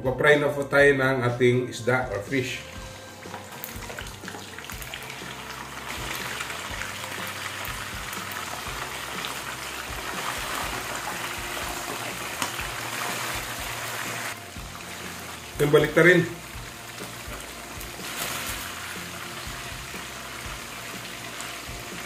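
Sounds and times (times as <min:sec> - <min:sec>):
fish frying in oil: 0:03.2 - 0:22.0.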